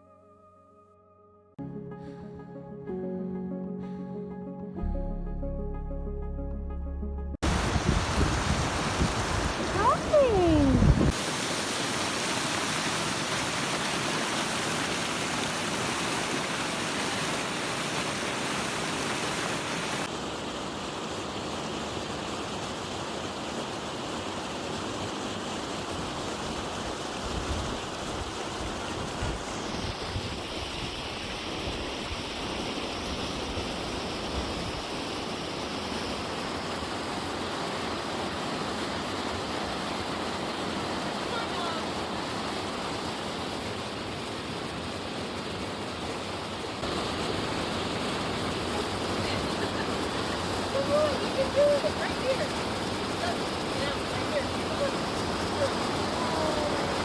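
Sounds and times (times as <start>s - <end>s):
running water rushing: 7.4s - 57.0s.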